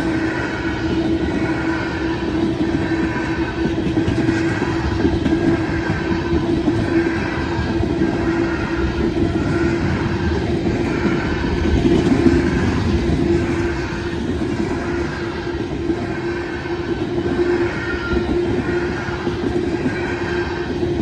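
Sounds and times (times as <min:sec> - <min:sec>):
constant ringing tone: 0:00.0 - 0:21.0
train wheels on rails: 0:00.0 - 0:21.0.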